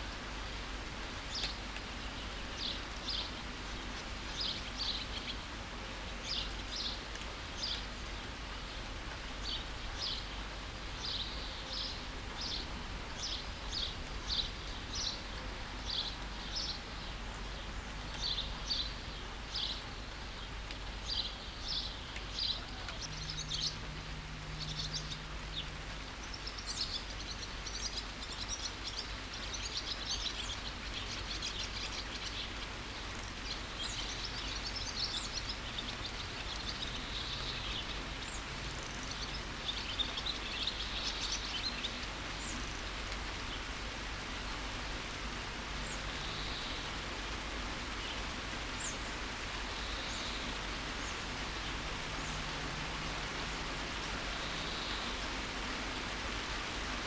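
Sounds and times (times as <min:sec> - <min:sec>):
steady rain: 0:00.0 - 0:57.0
birds chirping: 0:01.3 - 0:45.1, 0:45.7 - 0:57.0.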